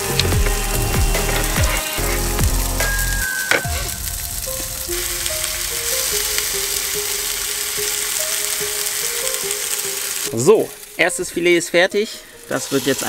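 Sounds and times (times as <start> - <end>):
fish sizzling in a frying pan: 0.0 - 13.0
soft background music: 0.0 - 13.0.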